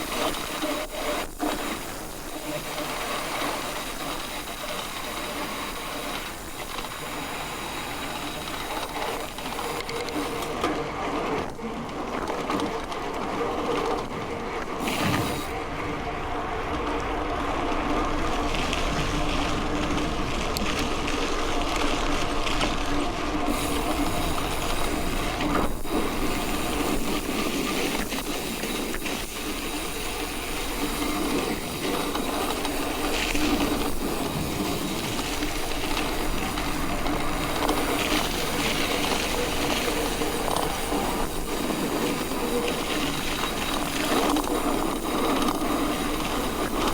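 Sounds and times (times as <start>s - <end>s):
bike tyres rolling on dirt: 0.0s - 46.9s.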